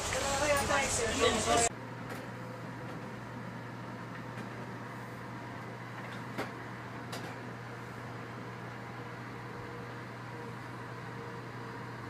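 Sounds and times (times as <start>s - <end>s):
train car running hum: 0.0s - 12.0s.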